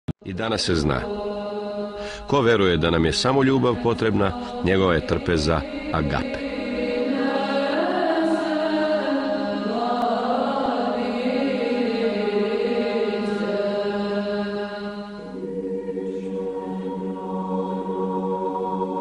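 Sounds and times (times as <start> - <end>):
chanted vocal music: 0.3 - 19.0.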